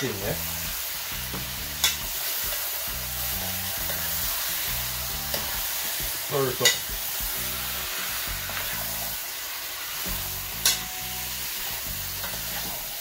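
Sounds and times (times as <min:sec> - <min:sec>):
meat sizzling in a pot: 0:00.0 - 0:13.0.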